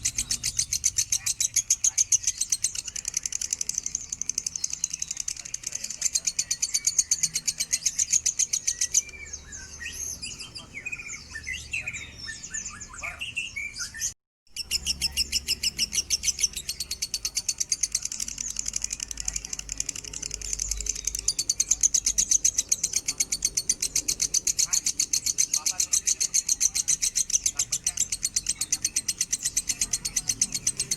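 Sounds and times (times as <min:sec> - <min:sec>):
bird chirps: 0:00.0 - 0:30.9
lovebird trilling: 0:00.0 - 0:30.9.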